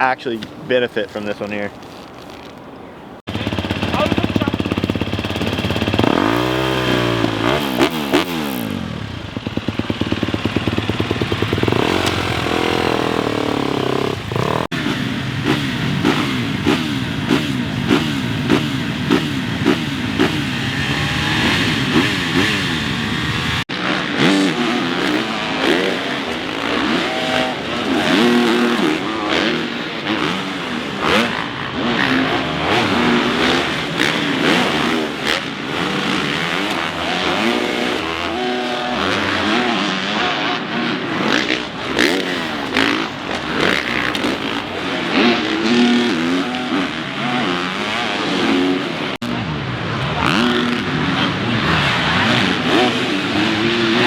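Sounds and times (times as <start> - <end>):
dirt bike engines revving: 3.2 - 54.0.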